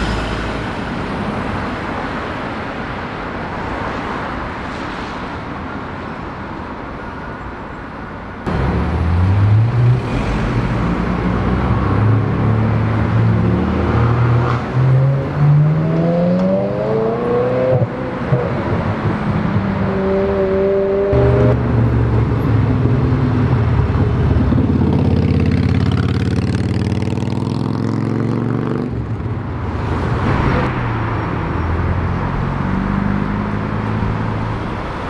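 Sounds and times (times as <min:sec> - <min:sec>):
street traffic: 0:00.0 - 0:35.0.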